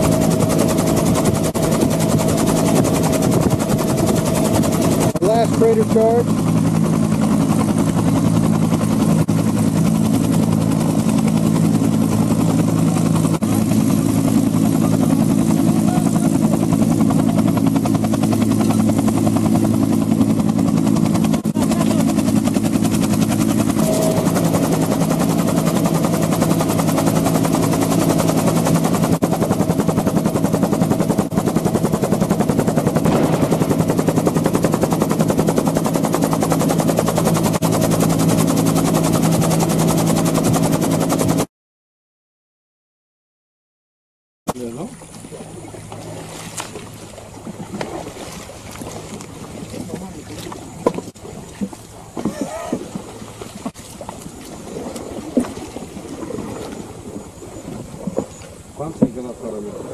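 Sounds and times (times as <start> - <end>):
helicopter running: 0.0 - 41.5, 44.5 - 59.9.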